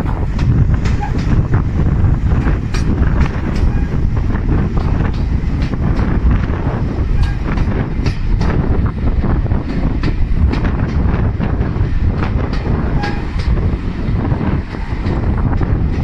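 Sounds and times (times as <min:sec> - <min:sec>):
wheels rumbling on track: 0:00.0 - 0:16.0.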